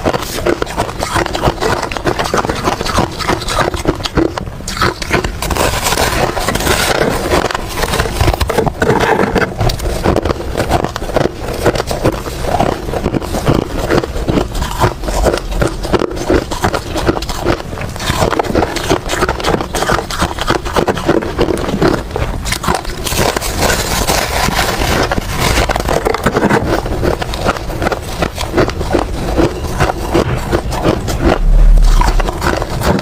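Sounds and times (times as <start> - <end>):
ice being crunched and chewed: 0.0 - 33.0.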